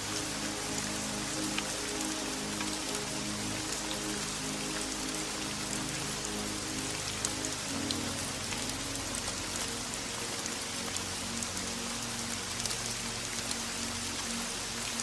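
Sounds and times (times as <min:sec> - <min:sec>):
faint low music notes: 0:00.0 - 0:15.0
steady rain: 0:00.0 - 0:15.0.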